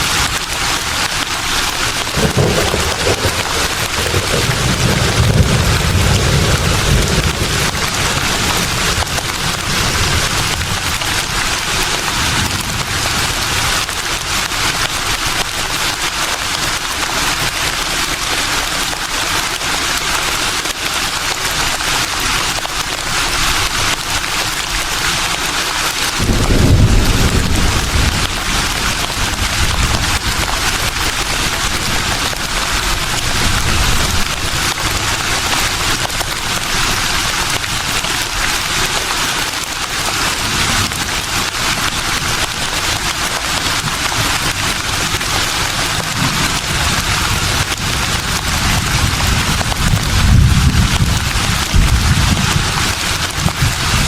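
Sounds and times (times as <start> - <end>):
leaves rustling in breeze: 0.0 - 54.0.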